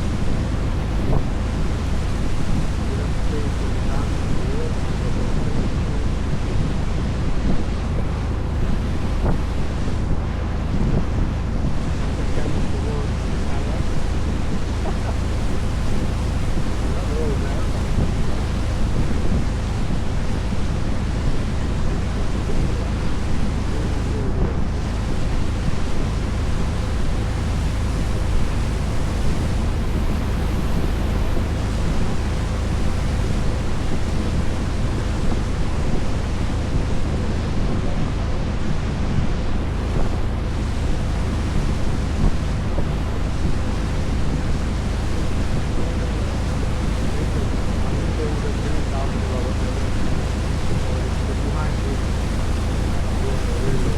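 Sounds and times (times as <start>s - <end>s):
boat engine drone: 0.0s - 53.9s
water rushing past hull: 0.0s - 53.9s
wind on microphone: 0.0s - 53.9s.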